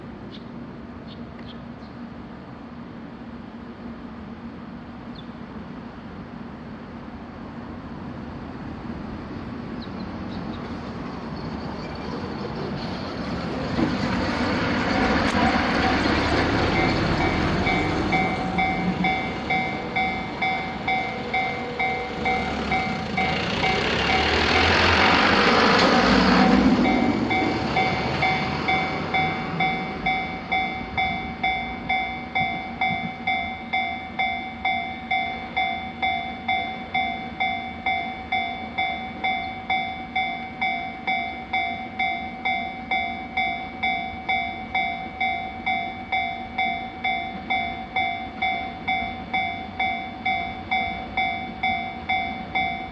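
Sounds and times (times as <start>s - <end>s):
train passing: 0.0s - 52.9s.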